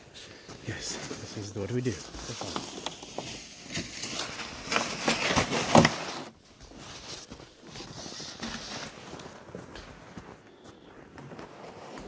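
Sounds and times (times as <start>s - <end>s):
footsteps crunching through snow: 0.0s - 12.0s.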